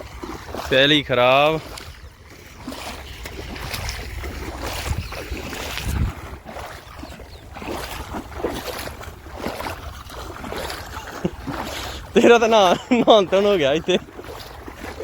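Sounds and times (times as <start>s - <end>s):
floodwater rushing: 0.0s - 15.0s
wind buffeting microphone: 0.0s - 15.0s.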